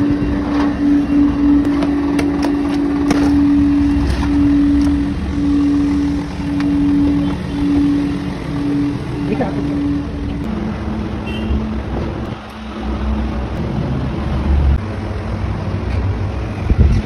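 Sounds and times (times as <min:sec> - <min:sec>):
droning motor hum: 0:00.0 - 0:17.0.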